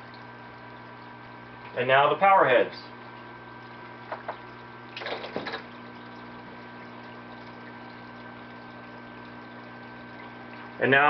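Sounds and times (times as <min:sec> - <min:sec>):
low pump hum: 0:00.0 - 0:11.0
water trickling: 0:00.0 - 0:11.0.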